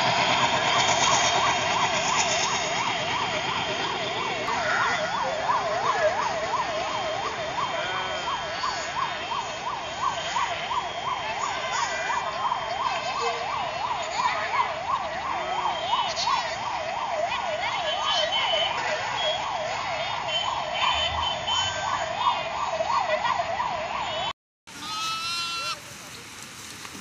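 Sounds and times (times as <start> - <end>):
electronic siren yelping: 0.0 - 24.3.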